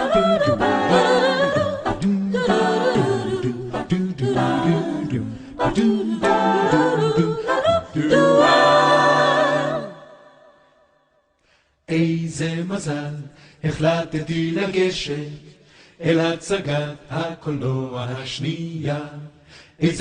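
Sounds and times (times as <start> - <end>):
voices singing a cappella: 0.0 - 10.7, 11.9 - 20.0.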